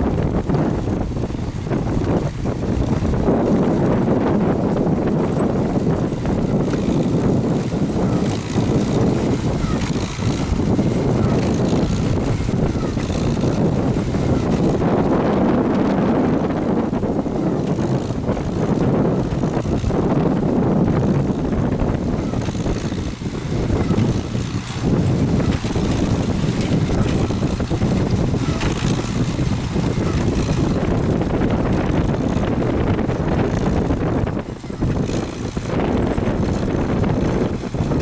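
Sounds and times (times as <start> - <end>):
hay baler running: 0.0 - 38.0
tractor engine: 0.0 - 38.0
wind buffeting microphone: 0.0 - 38.0.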